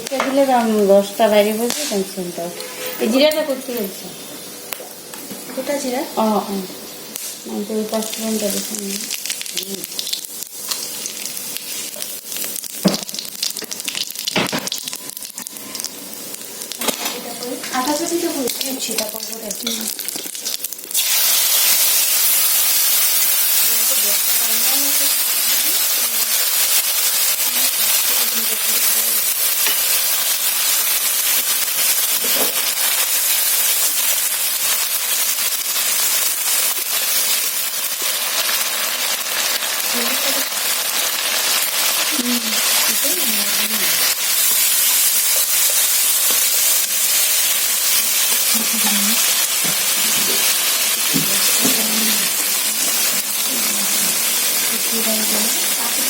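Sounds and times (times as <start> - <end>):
spices sizzling in hot oil: 0.0 - 56.0.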